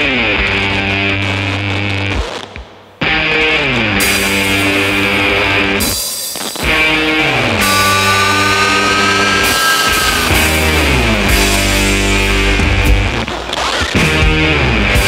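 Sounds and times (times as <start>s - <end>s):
guitar rock music: 0.0s - 15.0s.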